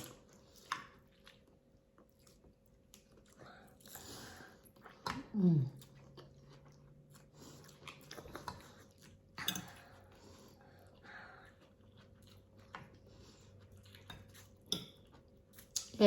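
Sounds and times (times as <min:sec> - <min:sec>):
soft chewing: 0:00.0 - 0:16.0.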